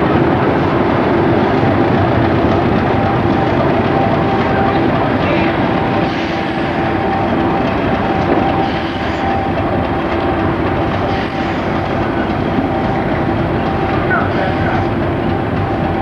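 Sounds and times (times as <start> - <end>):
diesel locomotive engine running: 0.0 - 16.0
steady whine: 0.0 - 16.0.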